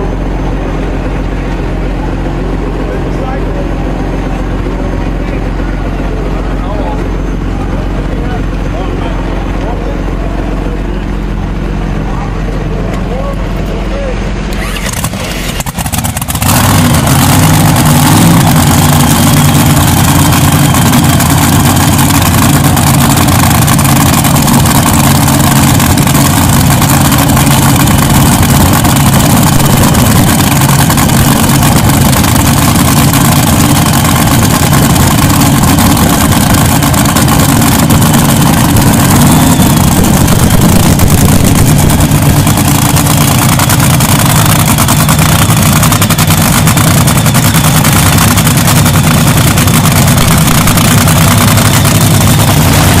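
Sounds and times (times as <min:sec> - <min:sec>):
dragster engine idling loudly: 0:00.0 - 0:53.0.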